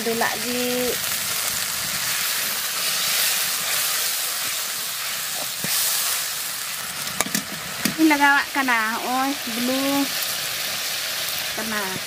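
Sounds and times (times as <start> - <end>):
liquid sizzling in hot pan: 0.0 - 12.0.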